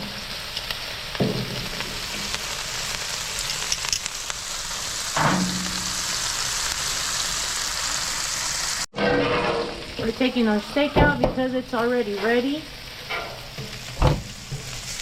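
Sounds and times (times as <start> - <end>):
food sizzling on griddle: 0.0 - 15.0.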